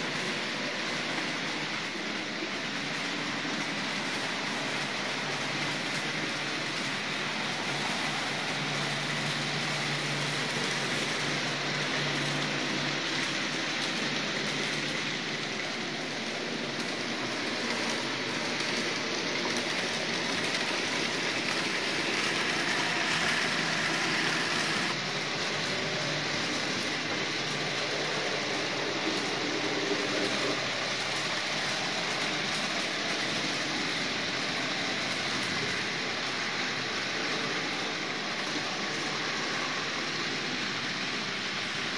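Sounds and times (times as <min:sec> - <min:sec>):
small wheels rattling on track: 0:00.0 - 0:41.9.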